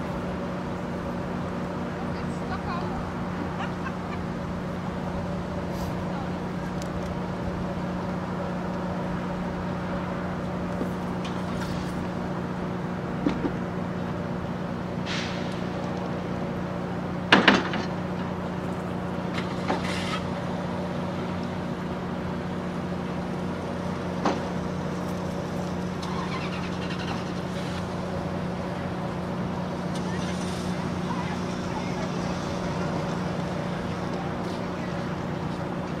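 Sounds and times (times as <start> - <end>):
idling train hum: 0.0 - 36.0.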